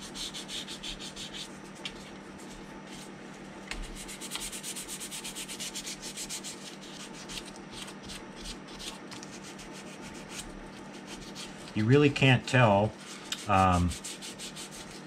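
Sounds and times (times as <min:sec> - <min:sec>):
sandpaper rubbing on plastic: 0:00.0 - 0:01.8, 0:03.8 - 0:12.1, 0:12.9 - 0:15.0.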